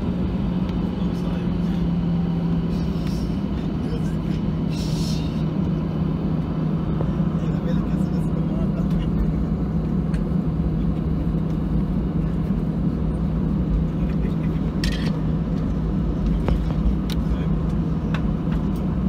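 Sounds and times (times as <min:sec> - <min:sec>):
airplane cabin engine hum: 0:00.0 - 0:19.0.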